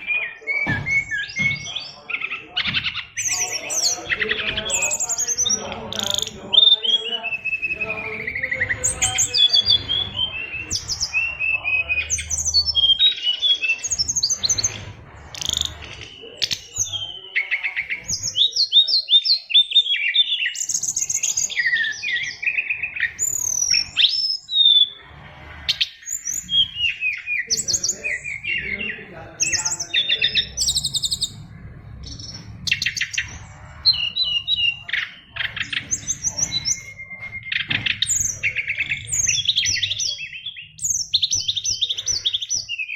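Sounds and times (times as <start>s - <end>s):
bird singing varied song: 0.0s - 42.9s.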